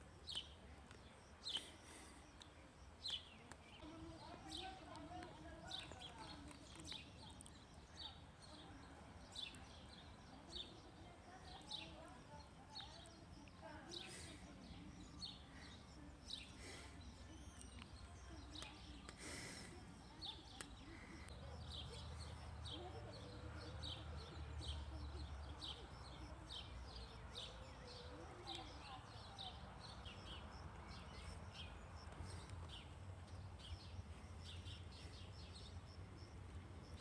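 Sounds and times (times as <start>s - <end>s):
faint bird chirping: 0.0s - 37.0s.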